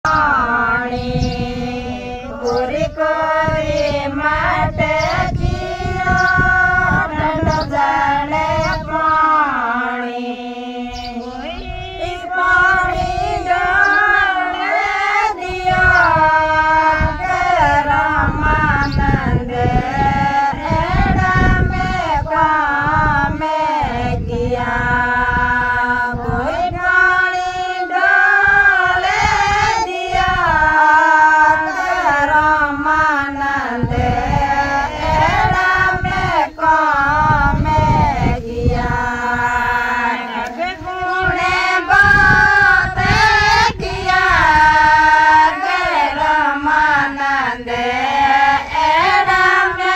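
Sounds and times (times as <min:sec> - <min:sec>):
women singing in chorus: 0:00.0 - 0:49.9.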